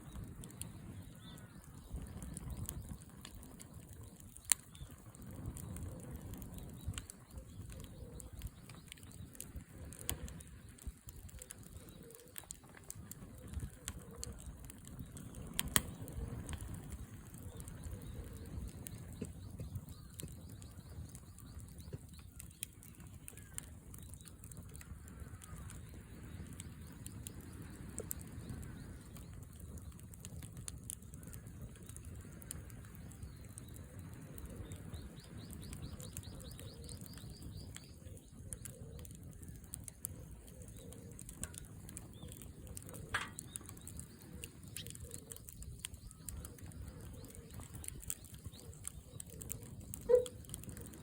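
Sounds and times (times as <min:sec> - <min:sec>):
birds calling: 0:00.0 - 0:51.0
wood fire crackling: 0:00.0 - 0:51.0.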